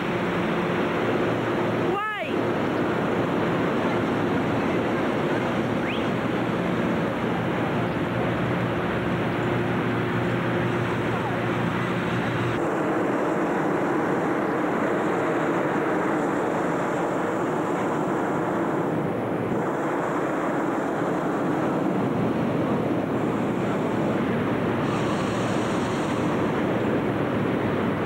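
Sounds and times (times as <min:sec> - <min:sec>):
propane burners roaring: 0:00.0 - 0:28.0.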